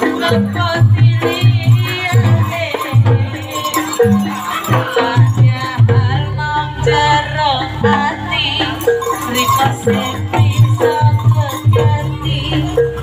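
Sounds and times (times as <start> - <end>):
drums beating rhythm: 0.0 - 13.0
person singing: 0.0 - 13.0.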